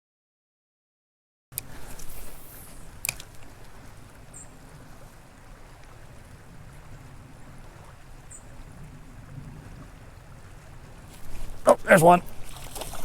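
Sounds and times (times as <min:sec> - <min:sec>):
creek water running: 0:01.6 - 0:13.0.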